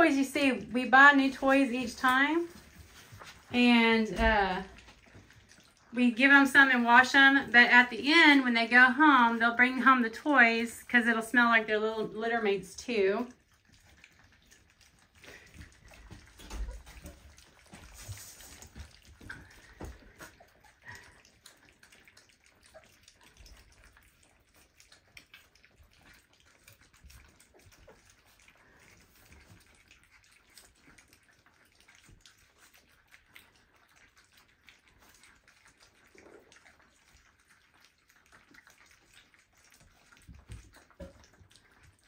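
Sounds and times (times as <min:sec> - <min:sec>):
puppies moving about: 0:01.2 - 0:06.6, 0:13.3 - 0:42.0.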